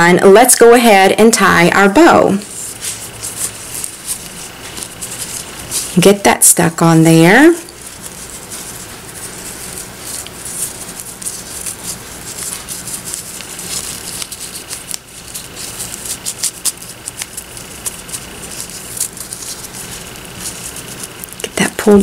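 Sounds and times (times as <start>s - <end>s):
ribbon rustling and crinkling: 2.0s - 6.1s, 7.3s - 22.0s.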